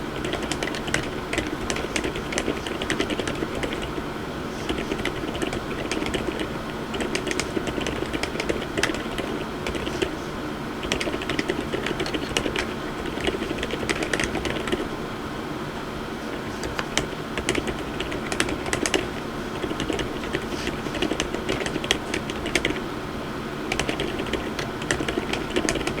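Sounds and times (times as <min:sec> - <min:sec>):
typing on mechanical keyboard: 0:00.2 - 0:04.0, 0:04.6 - 0:10.2, 0:10.8 - 0:14.9, 0:16.5 - 0:22.8, 0:23.7 - 0:26.0.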